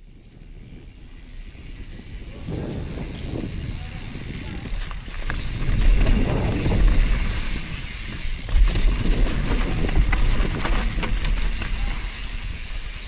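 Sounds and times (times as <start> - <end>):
bike rattles and clicks: 0.0 - 13.0
wind rumble on microphone: 0.0 - 13.0
tyre noise on dirt: 2.5 - 13.0.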